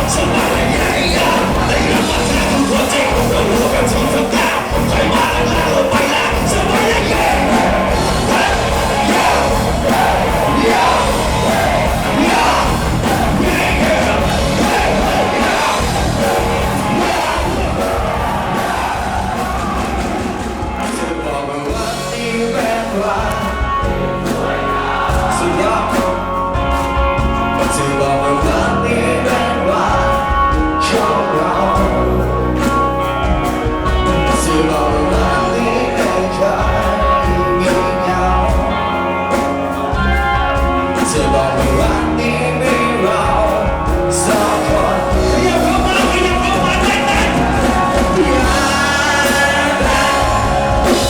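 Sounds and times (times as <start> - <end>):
live band playing: 0.0 - 51.0
person singing: 0.0 - 51.0.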